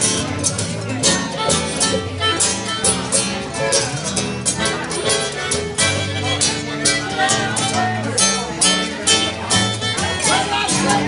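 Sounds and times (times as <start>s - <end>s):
acoustic guitars strumming: 0.0s - 11.0s
fiddle: 0.0s - 11.0s
harmonica: 1.0s - 11.0s.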